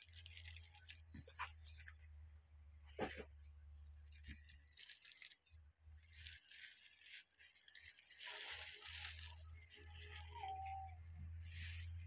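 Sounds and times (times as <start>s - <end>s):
plastic bag crinkling: 0.0s - 2.0s, 4.0s - 12.0s.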